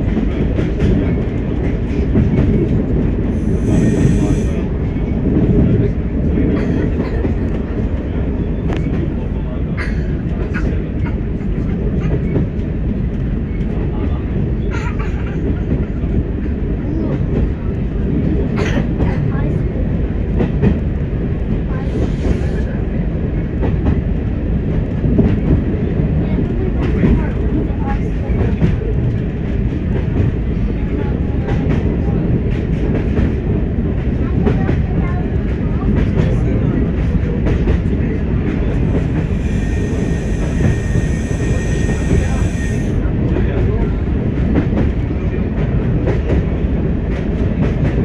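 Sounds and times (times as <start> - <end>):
train engine rumble: 0.0 - 48.0.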